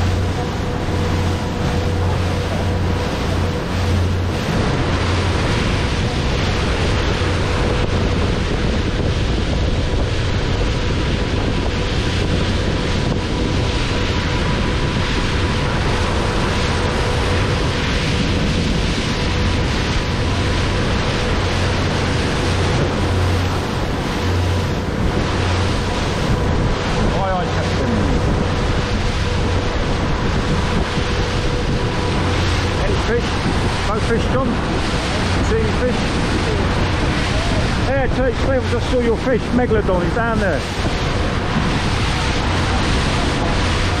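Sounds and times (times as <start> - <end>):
motor boat engine drone: 0.0 - 44.0
water rushing past hull: 0.0 - 44.0
wind buffeting microphone: 0.0 - 44.0.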